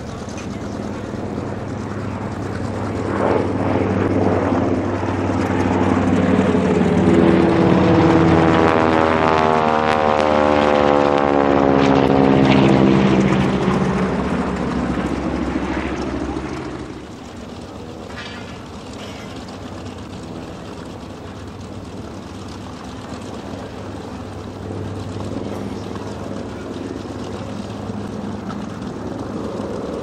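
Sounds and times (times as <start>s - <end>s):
propeller planes flying past: 0.0s - 30.0s.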